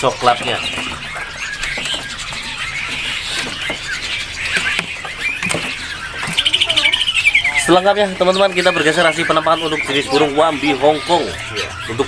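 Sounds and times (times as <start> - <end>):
bird trill: 0.0 - 12.0
songbirds chirping and twittering: 0.0 - 12.0.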